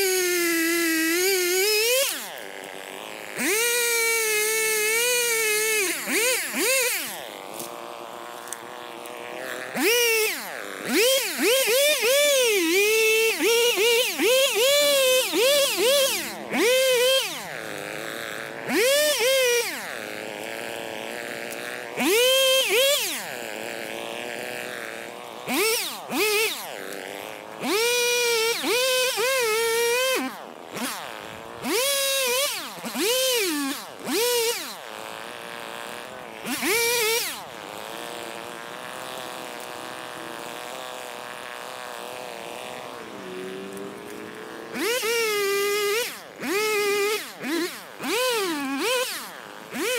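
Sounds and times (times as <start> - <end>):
chainsaw revving and idling: 0.0 - 49.9.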